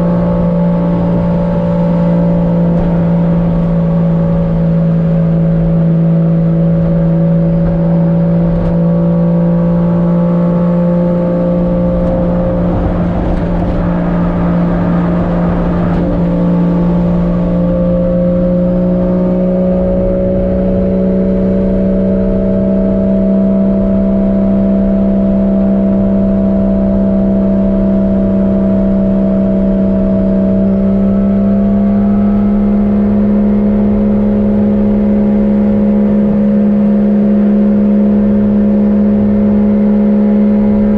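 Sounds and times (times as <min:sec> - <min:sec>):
car engine drone: 0:00.0 - 0:40.9.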